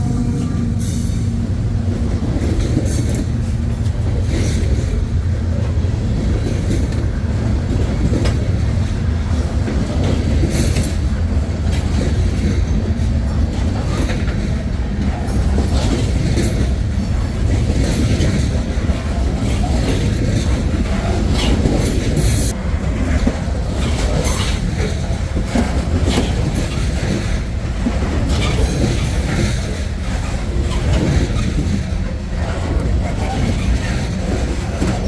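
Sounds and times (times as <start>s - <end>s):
train wheels rumbling on rail: 0.0s - 35.0s
wheels clicking over rail joints: 0.0s - 35.0s.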